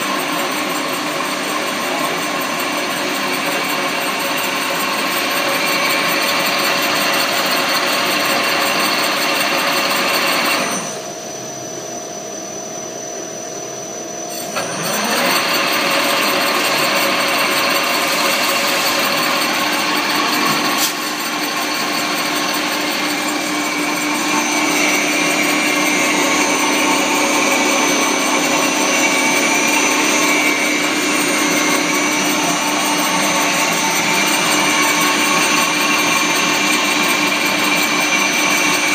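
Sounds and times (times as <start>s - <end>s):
wire coiler machine whirring: 0.0s - 11.8s, 14.3s - 38.9s.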